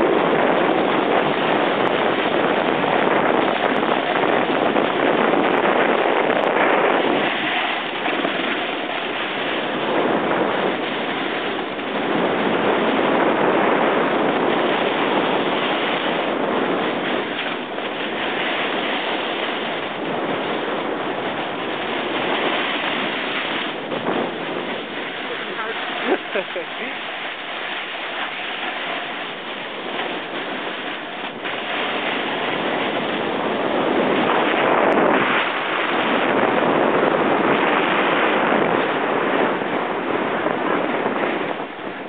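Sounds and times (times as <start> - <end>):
snowboard sliding over snow: 0.0 - 42.0
wind blowing across microphone: 0.0 - 42.0.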